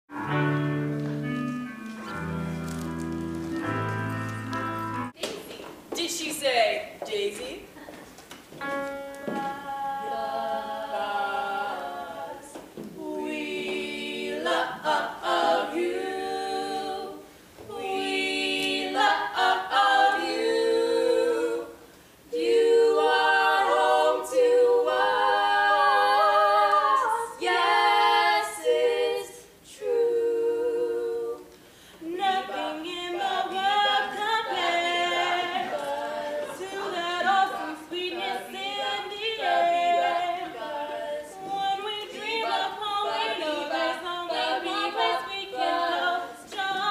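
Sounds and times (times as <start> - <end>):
girls singing a cappella: 8.7 - 46.9.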